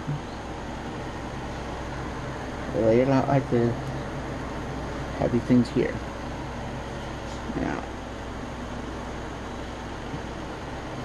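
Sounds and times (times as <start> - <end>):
room tone hum and hiss: 0.0 - 11.0.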